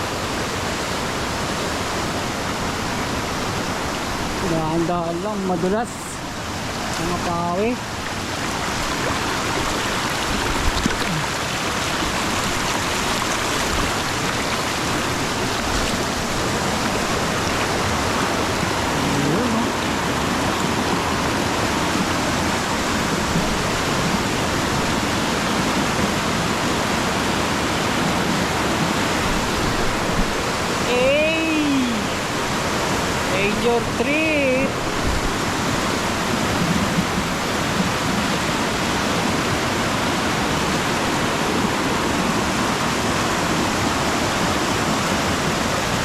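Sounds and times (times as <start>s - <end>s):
rushing stream water: 0.0s - 46.0s.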